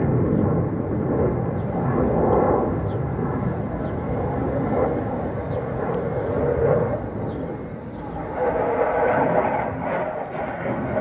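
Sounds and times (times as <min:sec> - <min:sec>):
plane flying overhead: 0:00.0 - 0:11.0.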